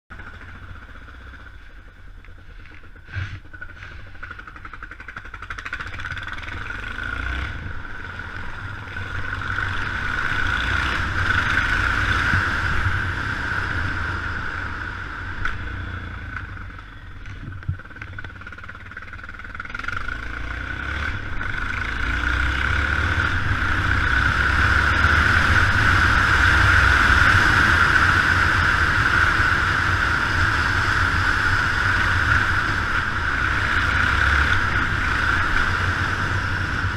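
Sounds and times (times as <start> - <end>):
motorcycle engine running: 0.1 - 36.9
wet-road noise: 0.1 - 36.9.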